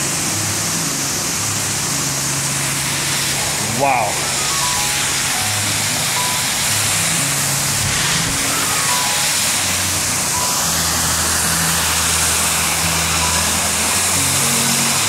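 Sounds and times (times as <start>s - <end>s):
background music: 0.0s - 15.0s
waterfall rushing: 0.0s - 15.0s.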